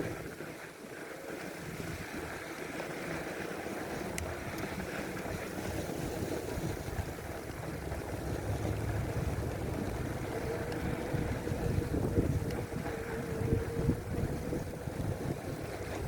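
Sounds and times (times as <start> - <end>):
bicycle rumble: 0.0 - 16.0
wind buffeting microphone: 1.3 - 16.0.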